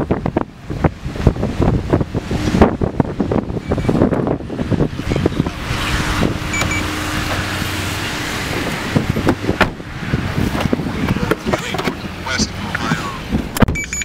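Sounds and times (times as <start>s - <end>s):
car engine hum: 0.0s - 14.0s
road and wind noise: 0.0s - 14.0s.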